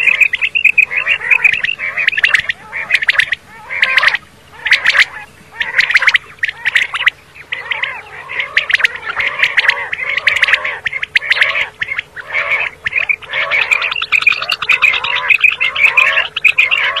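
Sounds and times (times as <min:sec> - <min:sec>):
quail calling: 0:00.0 - 0:17.0.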